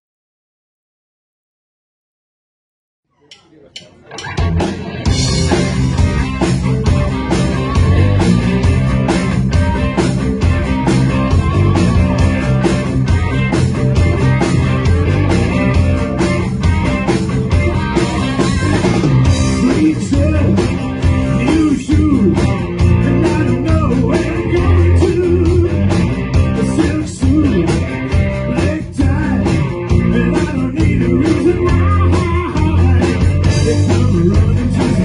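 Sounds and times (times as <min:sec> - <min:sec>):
drums with steady beat: 0:03.3 - 0:35.0
bass guitar: 0:03.8 - 0:35.0
electric guitar: 0:04.0 - 0:35.0.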